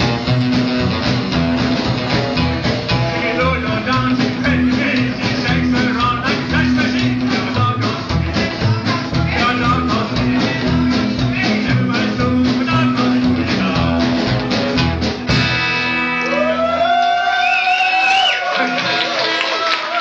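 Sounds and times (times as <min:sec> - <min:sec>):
rockabilly band playing: 0:00.0 - 0:20.0.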